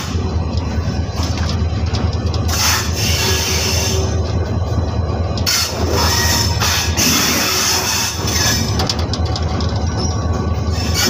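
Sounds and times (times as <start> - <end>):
locomotive engine droning: 0.0 - 11.0.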